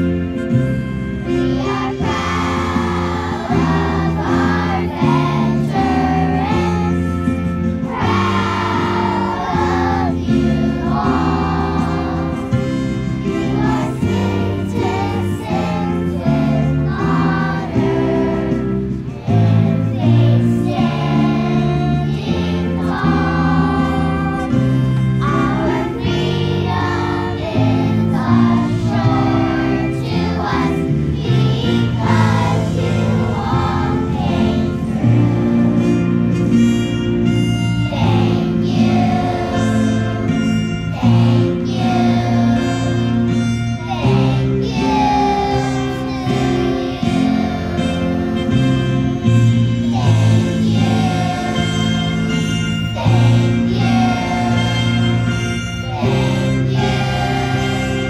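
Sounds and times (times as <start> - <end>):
instrumental low chords: 0.0 - 58.0
choir singing: 1.3 - 36.6, 37.9 - 58.0.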